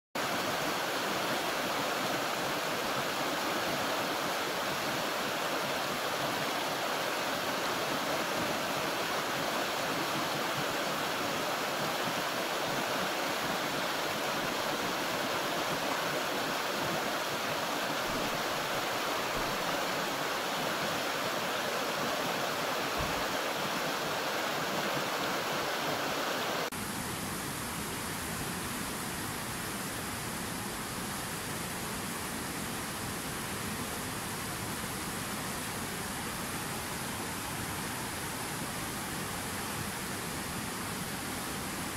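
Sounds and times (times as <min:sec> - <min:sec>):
fast river rushing: 0:00.2 - 0:41.9
stream rushing over rocks: 0:00.2 - 0:41.9.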